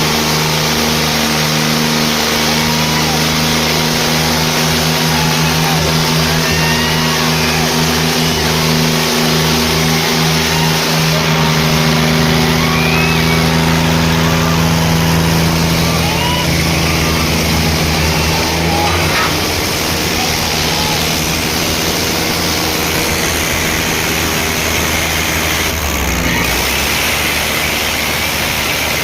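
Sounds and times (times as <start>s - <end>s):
tractor engines running hard: 0.0s - 29.0s
background voices: 1.9s - 27.6s.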